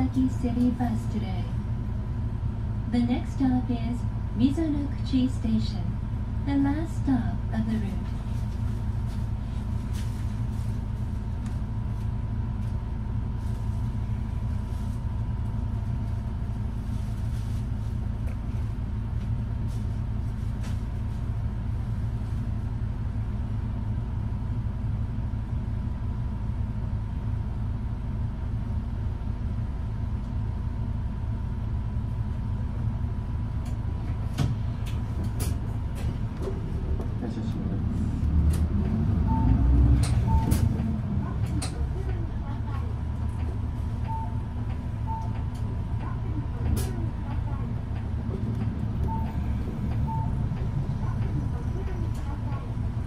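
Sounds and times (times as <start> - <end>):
bus engine humming: 0.0 - 53.0.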